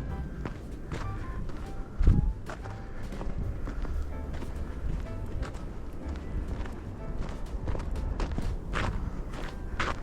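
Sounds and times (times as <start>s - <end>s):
footsteps crunching in snow: 0.0s - 10.0s
steady low rumble: 0.0s - 10.0s.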